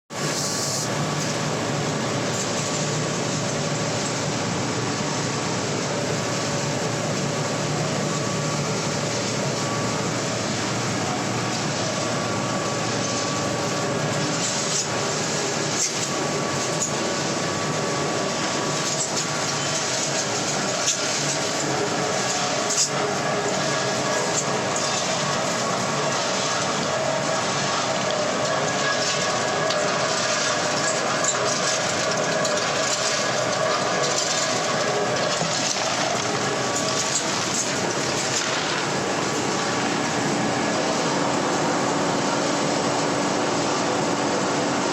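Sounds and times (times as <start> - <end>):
pellet mill running: 0.1 - 44.9.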